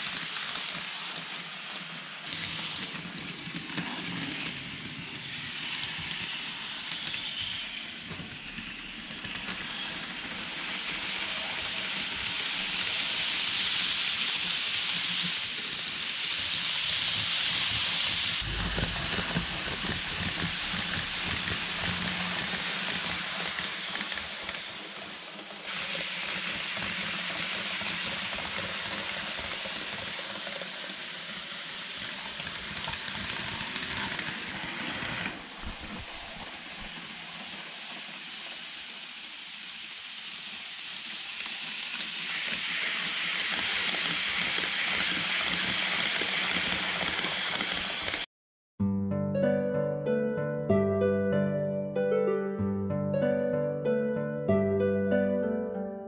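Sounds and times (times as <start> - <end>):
model train wheels rattling on rail: 0.0 - 48.3.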